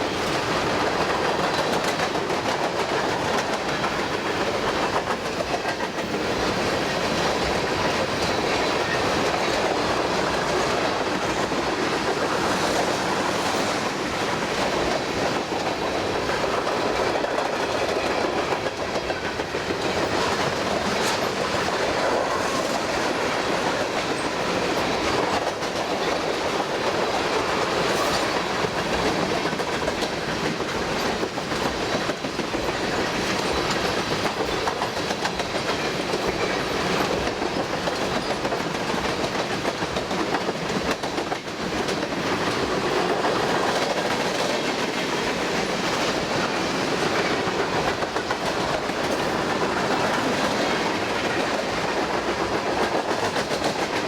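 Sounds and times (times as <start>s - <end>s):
freight train wheels clacking: 0.0s - 54.0s.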